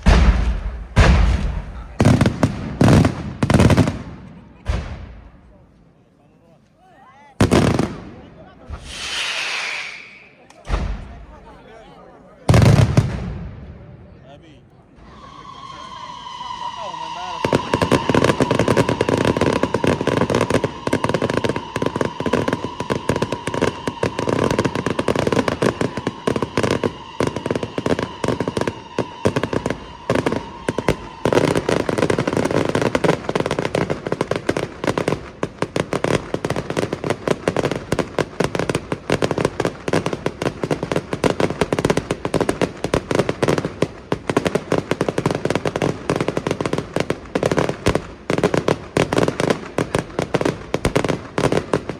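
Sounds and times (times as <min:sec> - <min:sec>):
fireworks bangs and crackles: 0:00.0 - 0:05.9, 0:07.4 - 0:51.9.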